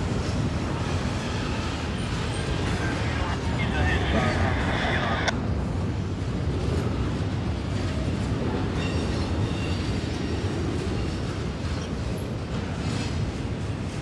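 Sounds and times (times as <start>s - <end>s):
steel wheels rumbling on rail: 0.0s - 14.0s.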